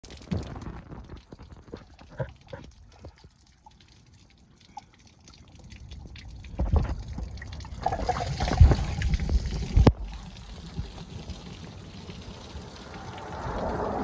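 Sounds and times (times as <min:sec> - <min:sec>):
water dripping and splashing: 0:00.0 - 0:14.0.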